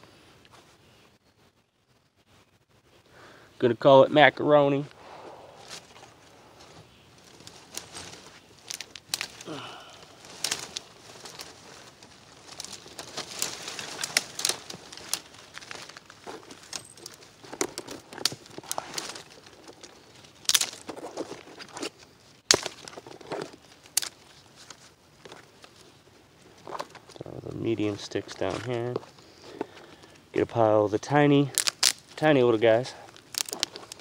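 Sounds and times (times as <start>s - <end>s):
branches rustling: 4.2s - 34.0s
twigs snapping: 5.6s - 30.3s, 31.4s - 34.0s.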